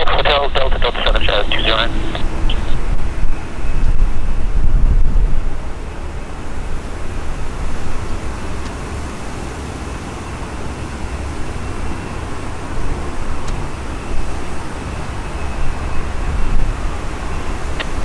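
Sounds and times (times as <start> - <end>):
faint high jet whine: 0.0 - 18.0
jet engines rumbling: 0.0 - 18.0.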